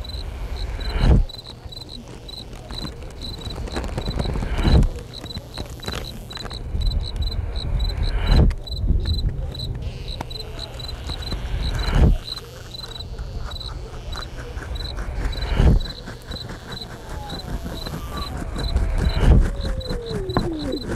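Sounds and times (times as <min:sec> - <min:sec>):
high insect-like chirping: 0:00.0 - 0:20.9.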